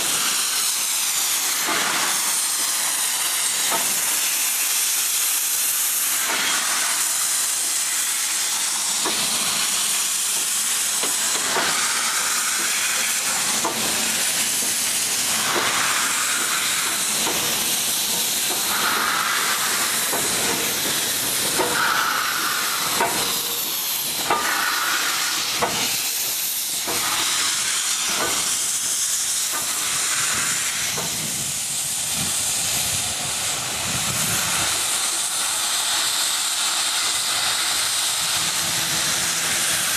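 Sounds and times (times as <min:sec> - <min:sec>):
steam locomotive hissing: 0:00.0 - 0:39.9.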